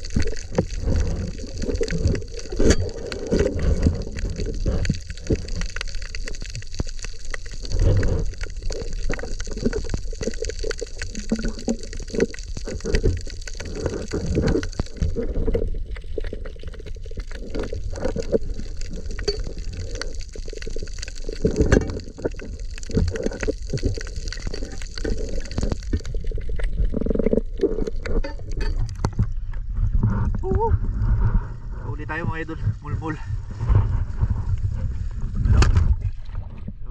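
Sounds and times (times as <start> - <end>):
muffled underwater sloshing: 0.0 - 36.9.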